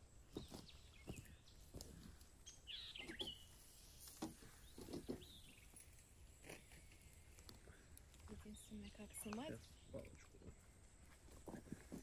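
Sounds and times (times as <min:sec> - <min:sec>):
faint bird chirps: 0:00.3 - 0:11.1.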